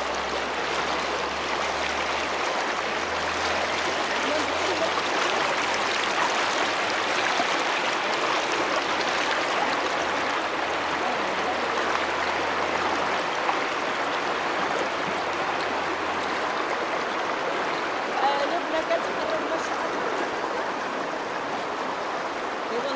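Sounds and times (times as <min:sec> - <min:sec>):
river rushing over stones: 0:00.0 - 0:22.9.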